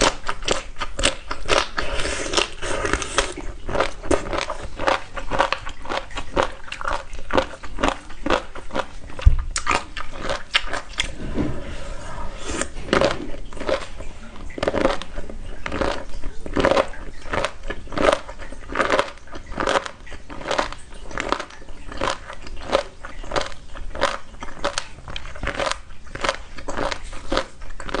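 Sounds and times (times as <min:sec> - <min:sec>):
chewing crunchy food: 0:00.0 - 0:28.0.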